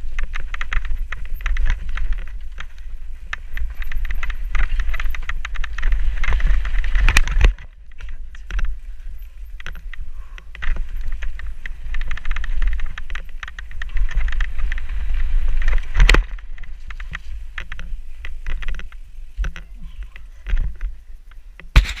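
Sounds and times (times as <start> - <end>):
bike clattering and rattling: 0.0 - 22.0
bike tyres over mud and stones: 0.0 - 22.0
wind rumbling on microphone: 0.0 - 22.0.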